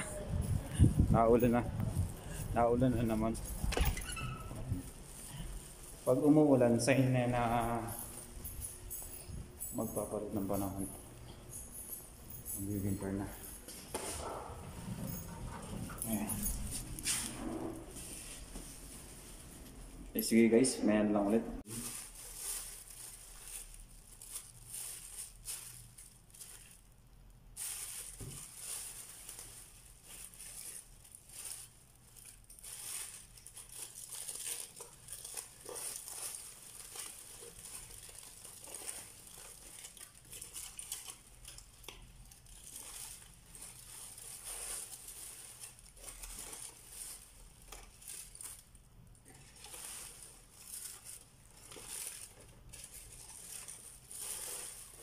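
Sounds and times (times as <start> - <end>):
plastic and foil crinkling: 0.0 - 55.0.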